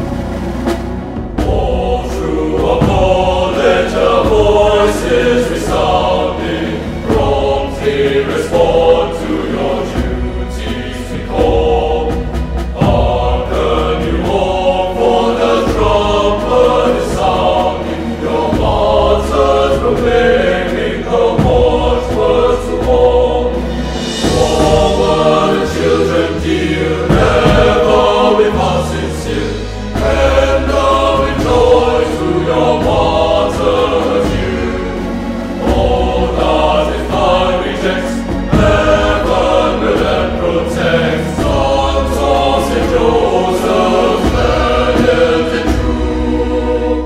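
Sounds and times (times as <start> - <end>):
slow choral music: 0.0 - 47.0.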